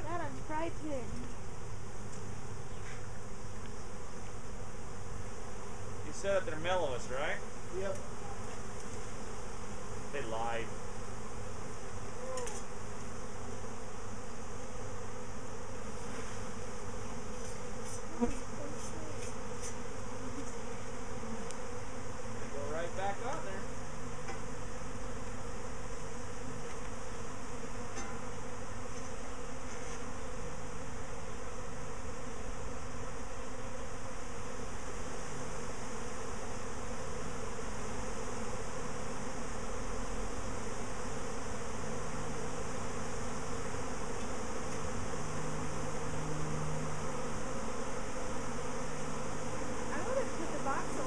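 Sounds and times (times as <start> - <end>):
swarm of bees buzzing: 0.0 - 51.0.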